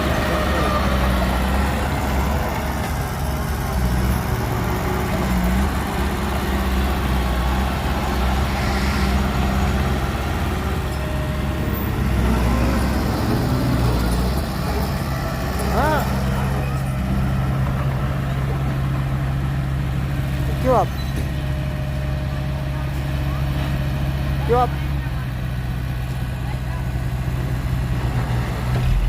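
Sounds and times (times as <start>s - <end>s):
diesel machinery engine rumbling: 0.0s - 29.0s.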